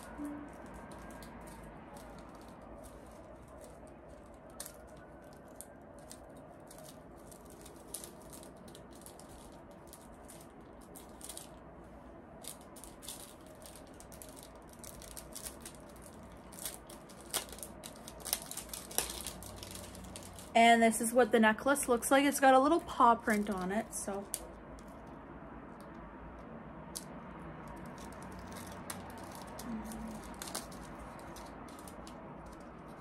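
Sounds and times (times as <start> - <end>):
jewelry packaging crinkling: 0.0 - 25.2, 26.9 - 33.0.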